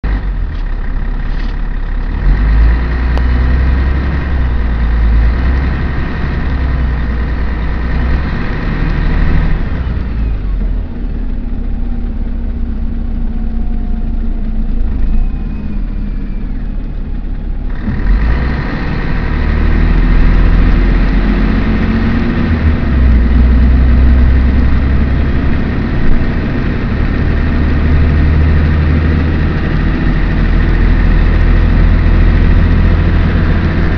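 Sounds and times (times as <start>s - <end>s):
bus diesel engine rumbling: 0.0s - 33.9s.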